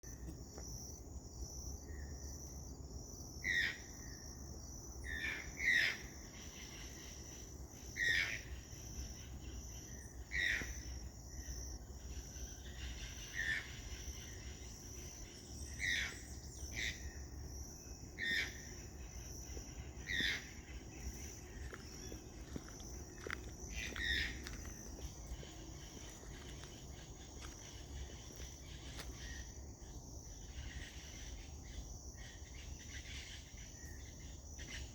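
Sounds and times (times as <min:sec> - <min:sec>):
high buzz of insects: 0:00.0 - 0:34.9.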